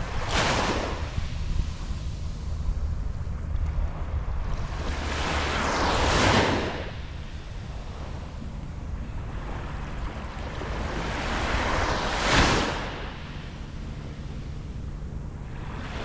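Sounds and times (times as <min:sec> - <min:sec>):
small waves washing on sand: 0:00.0 - 0:02.5, 0:03.7 - 0:08.4, 0:09.3 - 0:14.4, 0:15.4 - 0:16.0
steady low rumble: 0:00.0 - 0:16.0.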